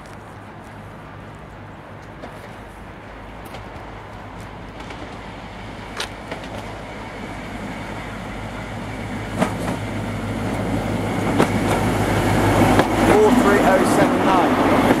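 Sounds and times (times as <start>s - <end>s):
diesel train engine hum: 0.0s - 15.0s.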